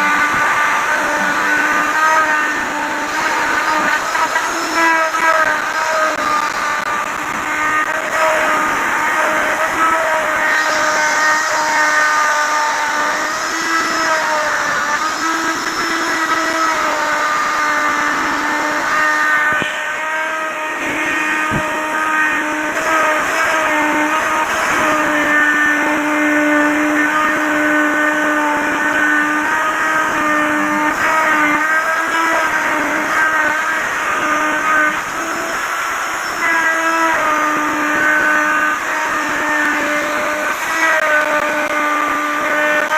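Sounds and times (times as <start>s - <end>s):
wood router whining: 0.0s - 42.9s.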